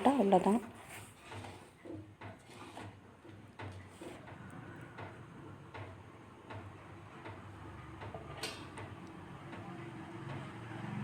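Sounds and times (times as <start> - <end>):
soup boiling in a pot: 0.0 - 11.0.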